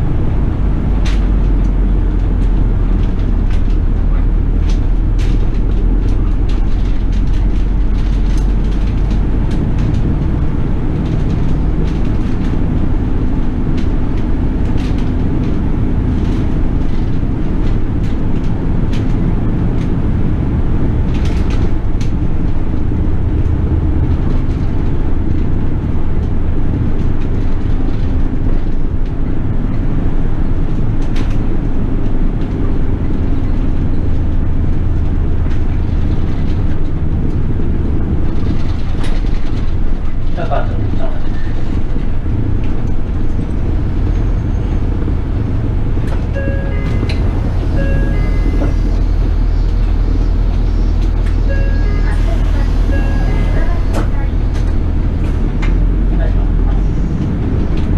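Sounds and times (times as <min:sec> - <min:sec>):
bus engine drone: 0:00.0 - 0:57.9
road noise: 0:00.0 - 0:57.9.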